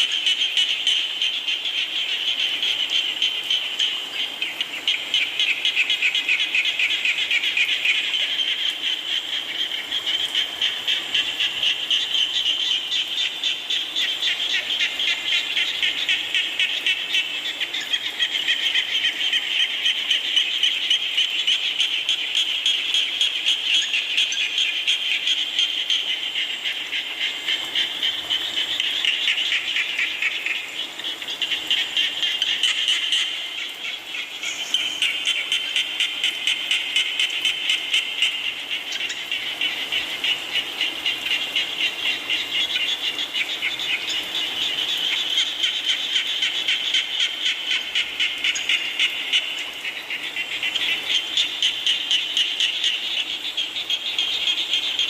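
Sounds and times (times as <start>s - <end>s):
frogs calling: 0.0s - 55.0s.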